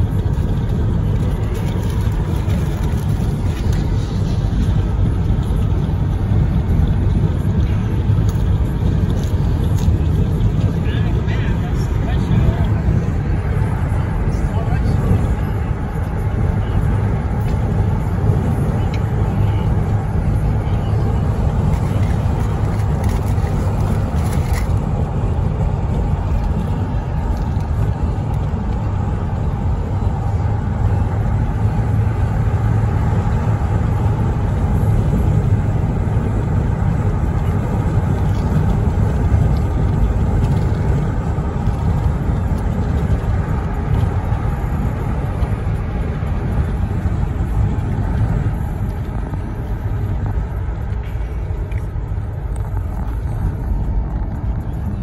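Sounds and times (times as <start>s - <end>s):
car cabin road and engine noise: 0.0s - 55.0s.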